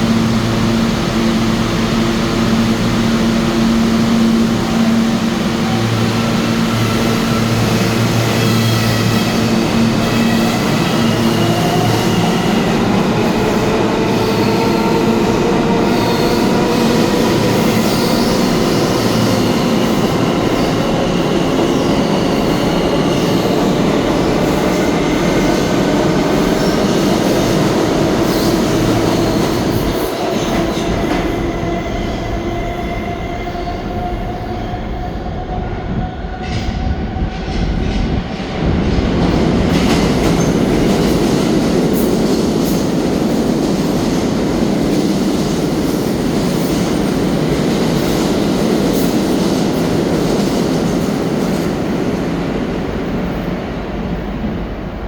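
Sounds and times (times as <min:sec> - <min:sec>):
train wheel and rail noise: 0:00.0 - 0:55.0.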